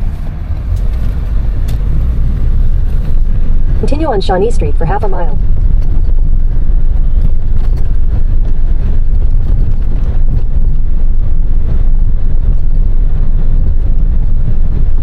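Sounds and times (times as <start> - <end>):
engine and road noise in truck cab: 0.0 - 15.0.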